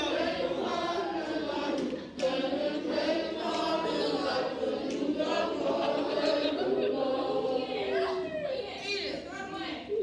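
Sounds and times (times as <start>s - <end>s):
choir singing a cappella: 0.0s - 8.2s.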